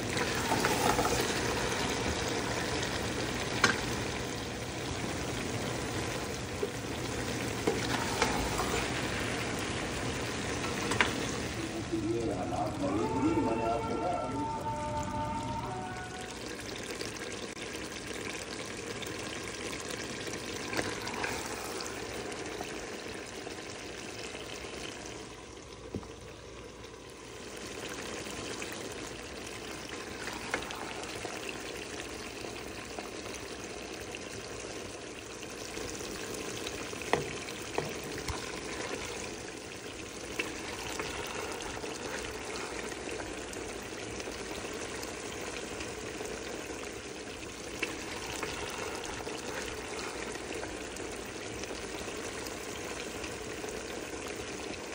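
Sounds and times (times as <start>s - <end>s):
food sizzling in a pot: 0.0s - 54.9s.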